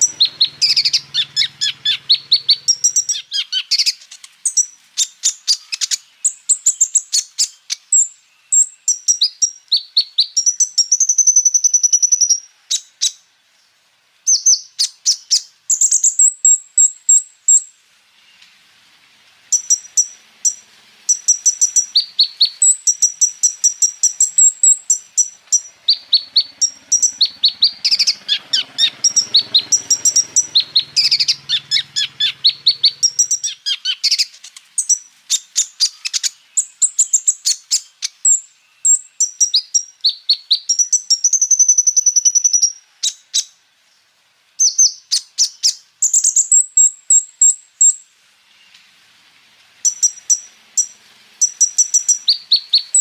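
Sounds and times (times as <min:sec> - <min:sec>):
bird singing chips and trills: 0:00.0 - 0:13.3, 0:14.2 - 0:18.6, 0:19.5 - 0:43.6, 0:44.6 - 0:48.9, 0:49.8 - 0:53.0.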